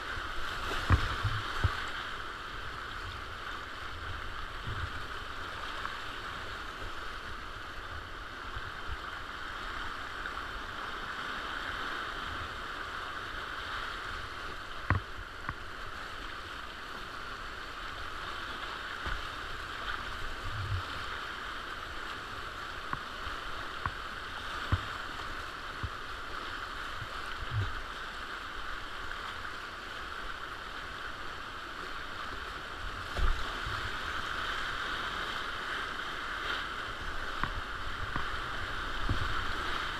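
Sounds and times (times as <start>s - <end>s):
rushing river rapids: 0.0s - 39.9s
waves thumping over bow: 0.0s - 39.9s.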